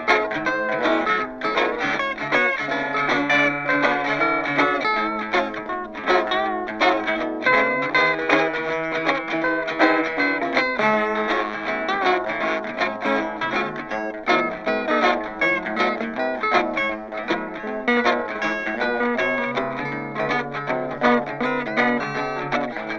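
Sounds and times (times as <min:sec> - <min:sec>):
plucked guitar music: 0:00.0 - 0:22.9.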